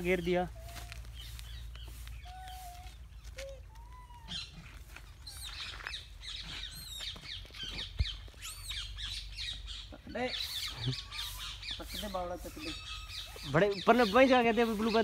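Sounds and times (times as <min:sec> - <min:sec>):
high chirping calls: 0:00.0 - 0:15.0.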